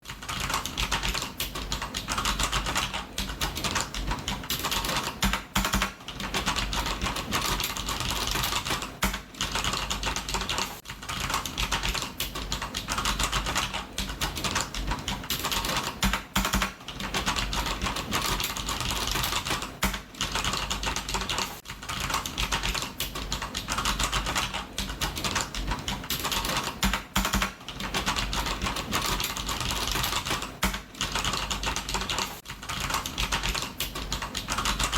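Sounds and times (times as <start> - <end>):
computer keyboard typing: 0.0 - 34.9.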